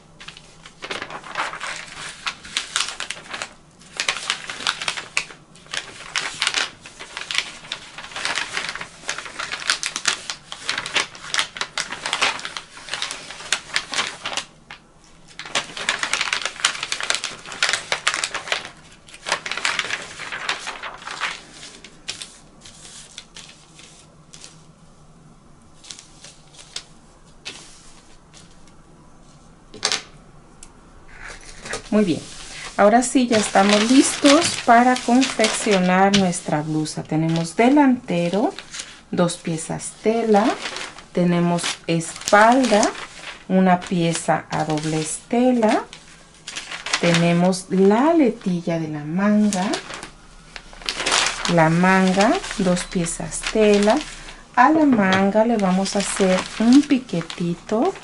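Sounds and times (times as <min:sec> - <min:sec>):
paper pattern handling: 0:00.1 - 0:24.7, 0:25.8 - 0:30.1, 0:31.1 - 0:58.0.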